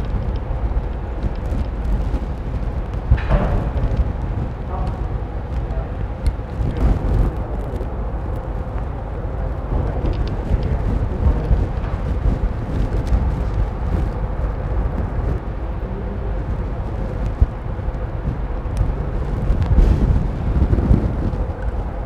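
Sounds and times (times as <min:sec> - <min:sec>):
faint constant hum: 0:00.0 - 0:22.0
low rumbling: 0:00.0 - 0:22.0.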